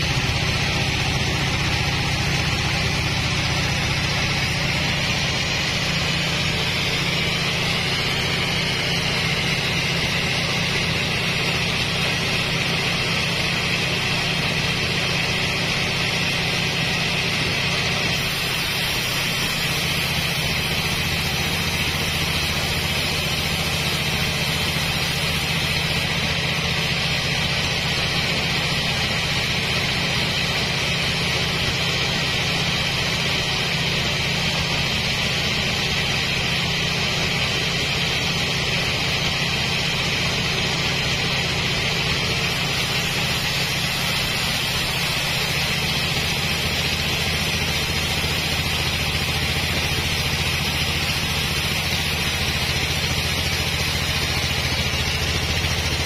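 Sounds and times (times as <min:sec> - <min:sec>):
diesel engine running steadily: 0:00.0 - 0:56.0
high whine: 0:00.0 - 0:56.0.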